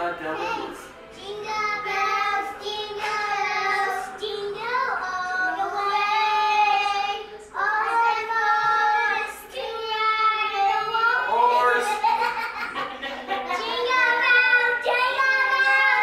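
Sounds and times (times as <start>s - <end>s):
girl singing: 0.4s - 12.4s, 13.4s - 16.0s.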